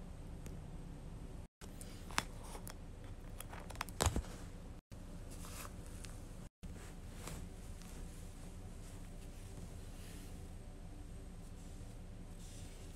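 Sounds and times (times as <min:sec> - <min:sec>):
low room hum: 0:00.0 - 0:12.9.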